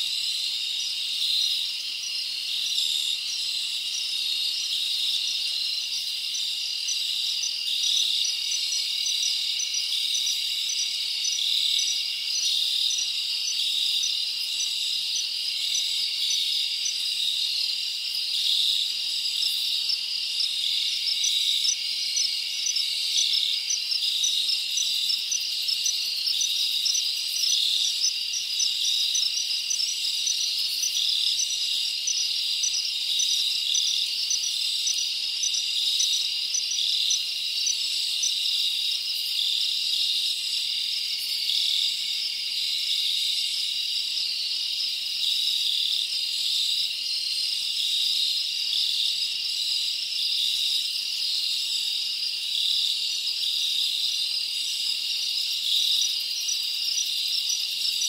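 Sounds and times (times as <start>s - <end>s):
insect chorus: 0.0s - 58.0s
rapid insect chirps: 0.0s - 58.0s.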